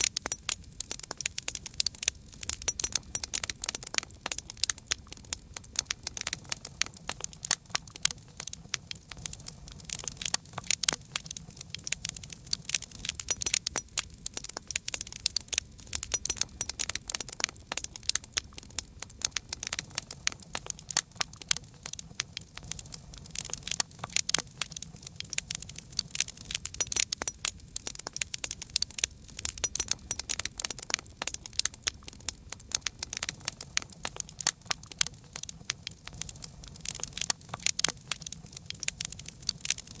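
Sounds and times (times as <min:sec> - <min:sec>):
fire pops and snaps: 0:00.0 - 0:40.0
low rumble of burning: 0:00.0 - 0:40.0.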